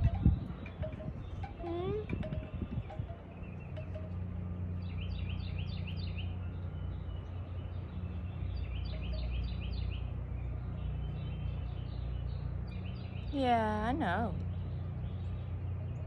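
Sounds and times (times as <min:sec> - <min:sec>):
songbird chirping: 0:00.0 - 0:16.0
steady low rumble: 0:00.0 - 0:16.0.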